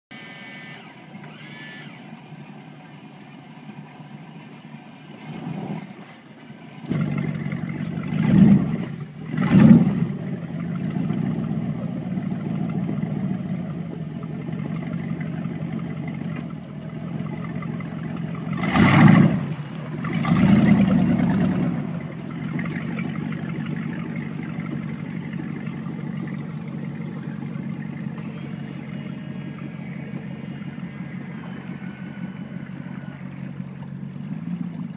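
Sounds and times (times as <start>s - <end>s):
boat engine starting and revving: 0.0s - 34.9s.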